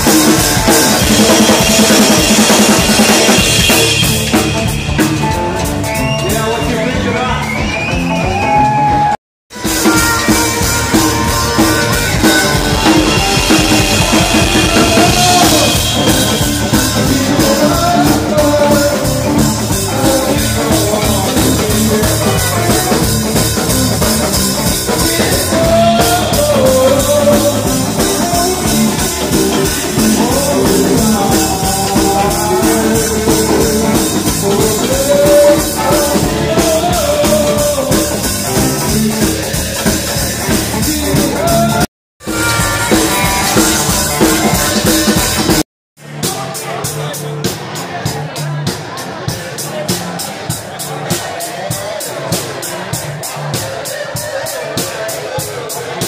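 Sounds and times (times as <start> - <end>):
electric guitar: 0.0 - 45.6
drum kit with cymbals: 0.0 - 56.0
rock band jamming: 0.0 - 56.0.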